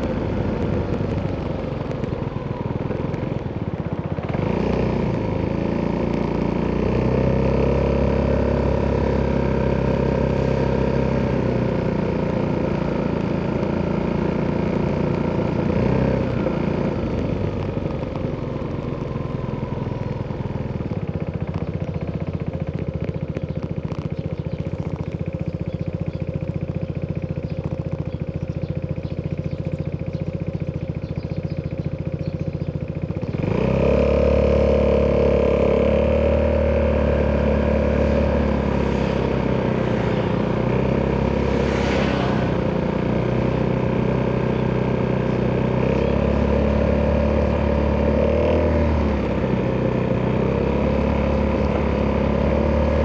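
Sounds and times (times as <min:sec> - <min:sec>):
scooter engine exhaust: 0:00.0 - 0:53.0.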